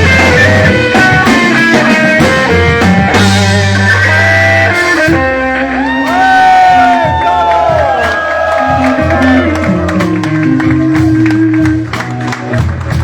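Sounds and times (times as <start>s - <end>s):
blues band playing: 0.0s - 13.0s
electric guitar lead: 0.0s - 13.0s.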